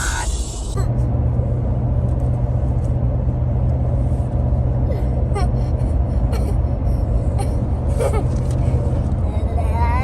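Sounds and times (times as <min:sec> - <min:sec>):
vehicle rumble from inside cabin: 0:00.0 - 0:10.0.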